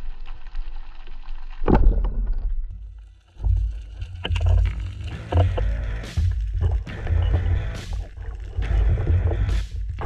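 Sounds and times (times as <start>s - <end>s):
muffled underwater rumbling: 0.0s - 10.0s.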